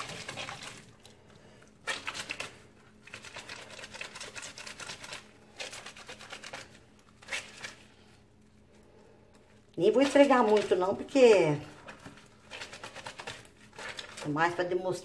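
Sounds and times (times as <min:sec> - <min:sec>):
wet soapy fabric squishing: 0:00.0 - 0:15.0.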